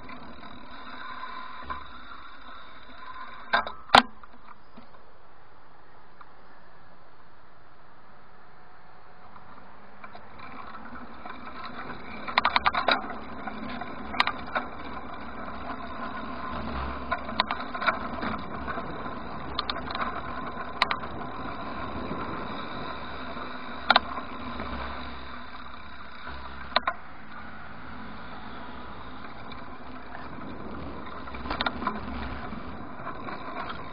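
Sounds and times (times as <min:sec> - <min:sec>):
bike rattles and knocks: 0:00.0 - 0:05.0, 0:09.2 - 0:33.9
bicycle road noise: 0:00.0 - 0:33.9.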